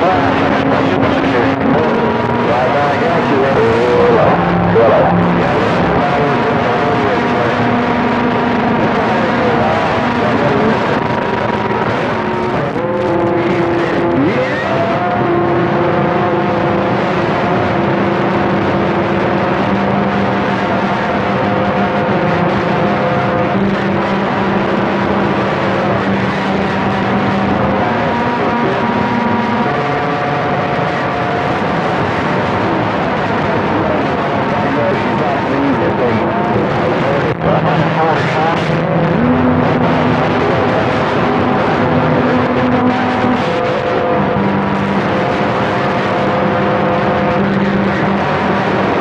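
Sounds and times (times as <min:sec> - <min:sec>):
radio hiss and static: 0:00.0 - 0:49.0.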